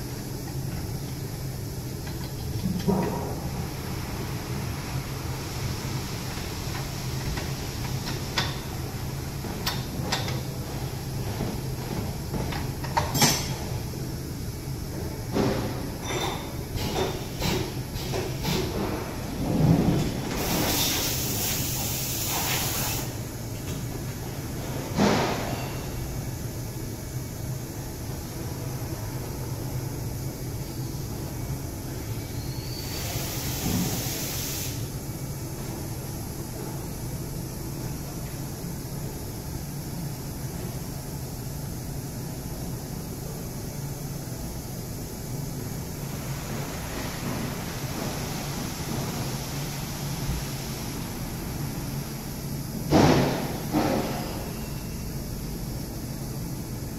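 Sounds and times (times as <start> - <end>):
machining centre hum and hiss: 0.0 - 56.9.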